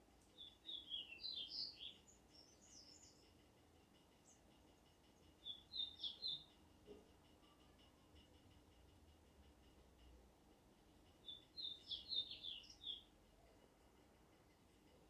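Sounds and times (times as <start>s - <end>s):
faint songbird chirping: 0.0s - 15.0s.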